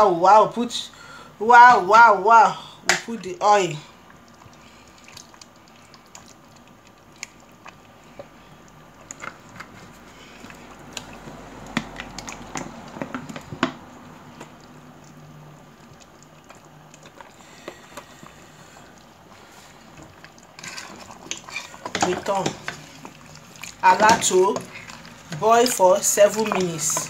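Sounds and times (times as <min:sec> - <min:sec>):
soup bubbling in a pot: 0:02.8 - 0:27.0.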